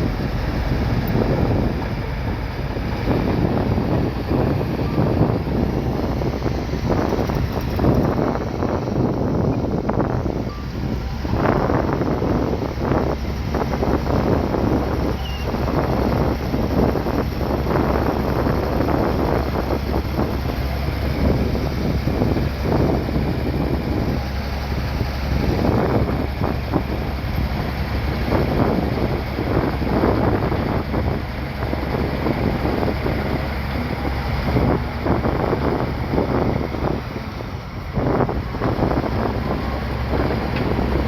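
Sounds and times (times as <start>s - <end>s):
bulldozer engine droning: 0.0s - 41.0s
wind buffeting microphone: 0.0s - 41.0s.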